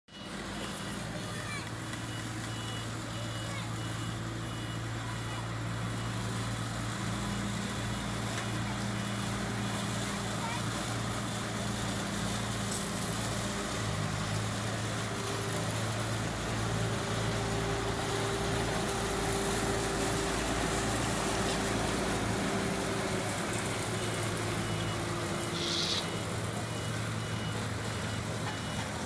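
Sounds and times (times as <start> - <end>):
asphalt paver diesel engine: 0.1 - 29.0
road roller engine running: 0.1 - 29.0.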